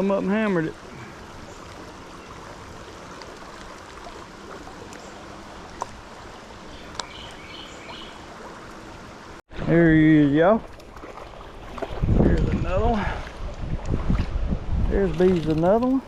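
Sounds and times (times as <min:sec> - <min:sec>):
stream flowing: 0:00.0 - 0:09.4, 0:10.3 - 0:14.5.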